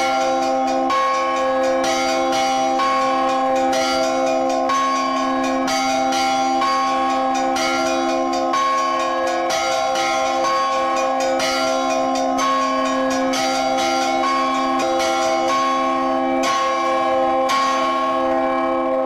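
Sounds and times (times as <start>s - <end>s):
large church bell: 0.0s - 19.0s
small church bells ringing: 0.0s - 19.0s.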